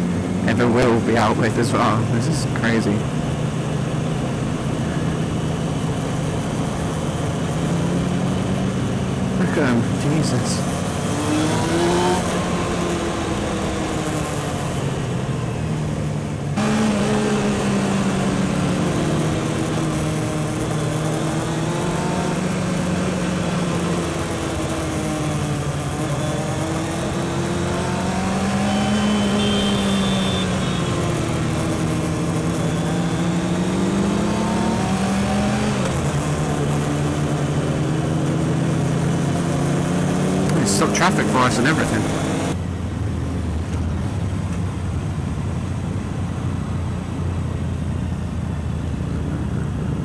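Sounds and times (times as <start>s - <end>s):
other motorcycles: 0.0s - 50.0s
motorcycle engine revving: 2.5s - 42.6s.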